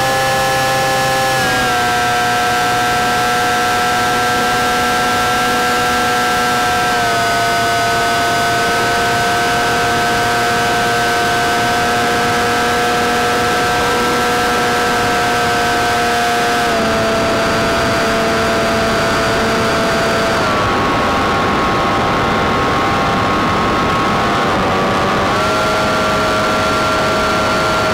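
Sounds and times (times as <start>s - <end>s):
electric motor whine: 0.0s - 27.9s.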